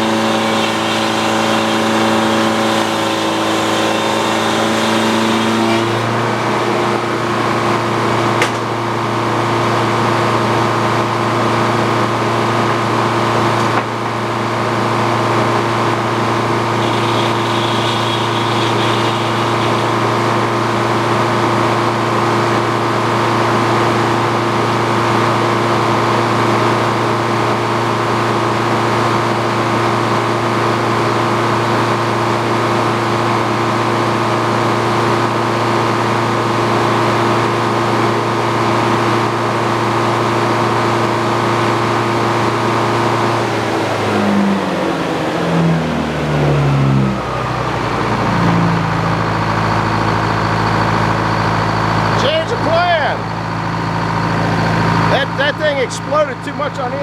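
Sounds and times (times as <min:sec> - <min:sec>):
sawmill mechanical hum: 0:00.0 - 0:57.0.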